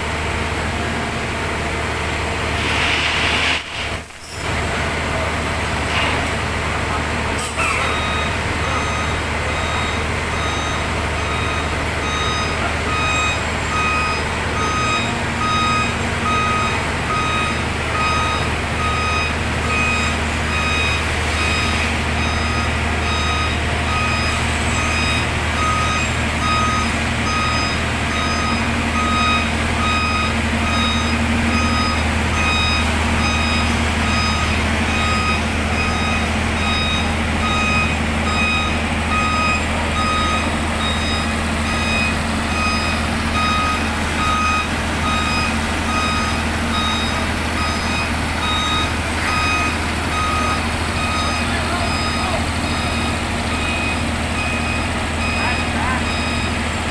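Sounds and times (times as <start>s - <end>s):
diesel engine running: 0.0s - 56.9s
backup alarm beeping: 7.8s - 56.6s.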